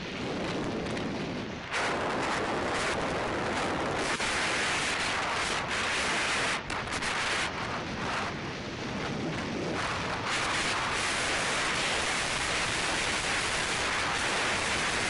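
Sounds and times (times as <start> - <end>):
wind rushing over microphone: 0.0 - 15.0
skis scraping over snow: 0.1 - 15.0.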